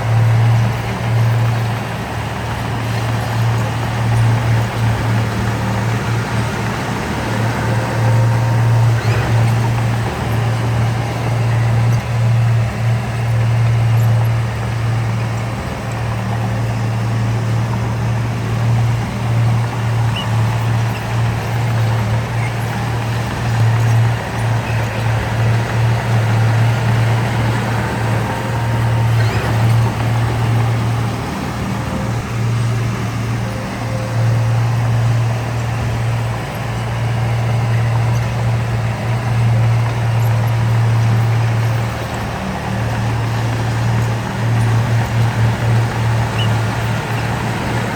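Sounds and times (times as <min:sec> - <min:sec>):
heavy diesel engine humming: 0:00.0 - 0:47.9.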